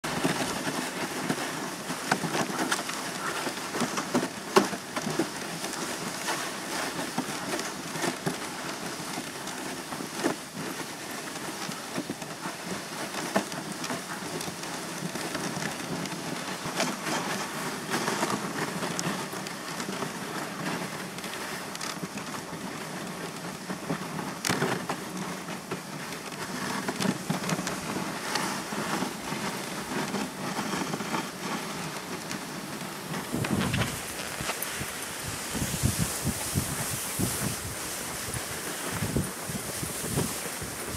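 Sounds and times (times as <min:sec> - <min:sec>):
sled clicks and knocks: 0:00.0 - 0:40.9
sled runners scraping over snow: 0:00.0 - 0:40.9.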